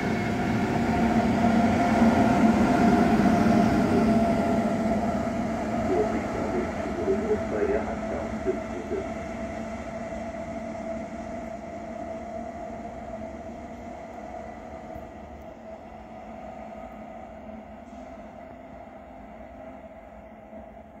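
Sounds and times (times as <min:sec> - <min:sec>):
train rumbling on track: 0:00.0 - 0:21.0
train whine: 0:00.0 - 0:21.0.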